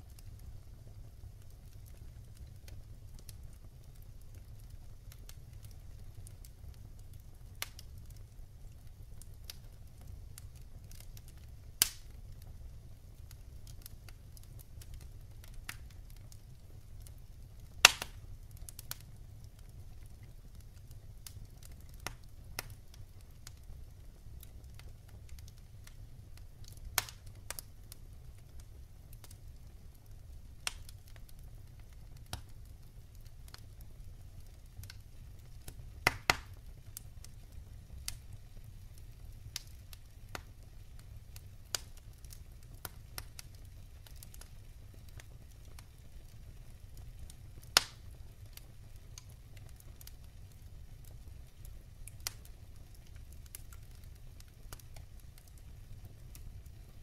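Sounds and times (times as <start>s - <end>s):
burning logs crackling and popping: 0.0s - 57.0s
fire flames rumbling: 0.0s - 57.0s.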